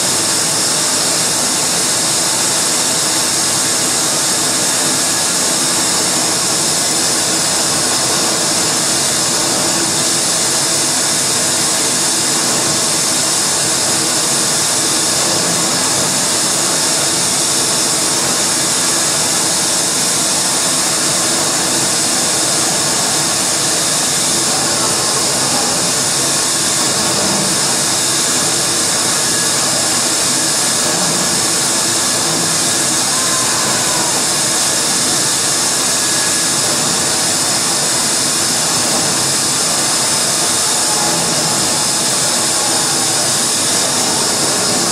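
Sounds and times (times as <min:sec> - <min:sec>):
wall of hissing noise: 0:00.0 - 0:44.9.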